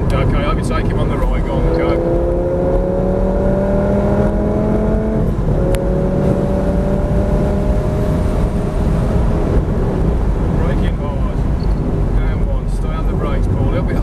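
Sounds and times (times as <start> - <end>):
car engine pulling hard: 0.0 - 14.0
wind and road roar: 0.0 - 14.0.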